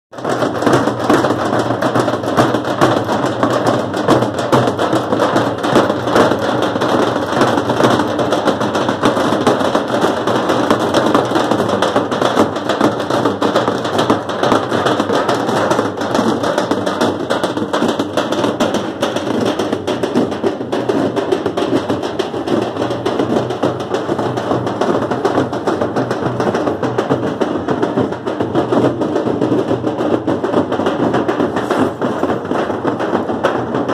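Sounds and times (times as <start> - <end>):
bass drums beaten fast: 0.1 - 33.9.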